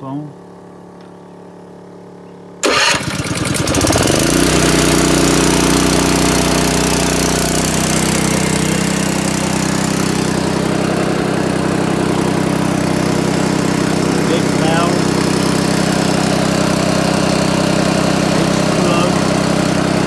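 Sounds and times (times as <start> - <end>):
petrol engine starting and running: 2.6 - 20.0.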